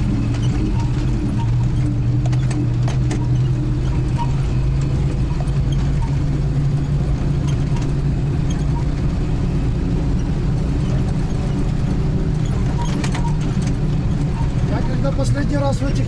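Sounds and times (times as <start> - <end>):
small knocks and rattles: 0.0 - 15.0
vehicle engine running: 0.0 - 16.0.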